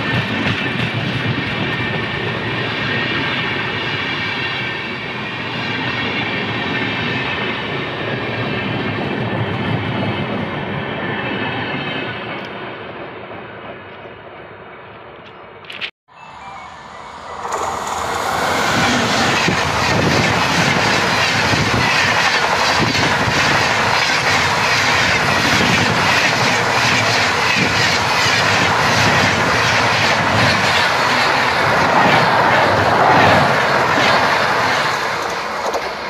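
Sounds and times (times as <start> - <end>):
train wheels rushing on rail: 0.0 - 14.4, 17.0 - 36.0.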